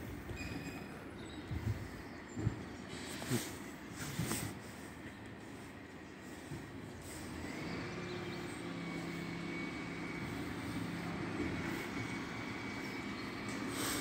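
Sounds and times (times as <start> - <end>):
diesel engine hum: 0.9 - 14.0.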